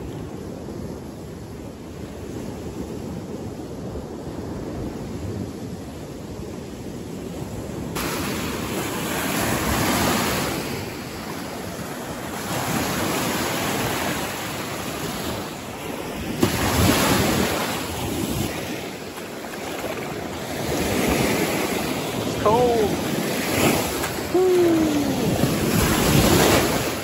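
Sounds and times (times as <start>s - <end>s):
lake waves washing on sand: 0.0s - 27.0s.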